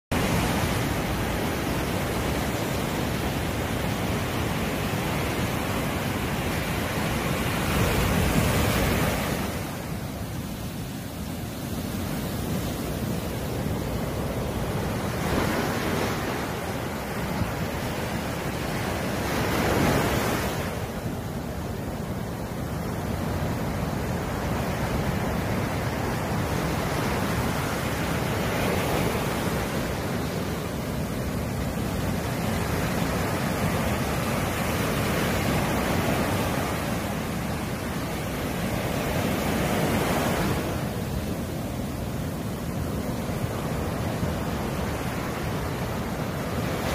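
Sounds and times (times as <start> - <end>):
ocean waves breaking on beach: 0.1 - 46.9.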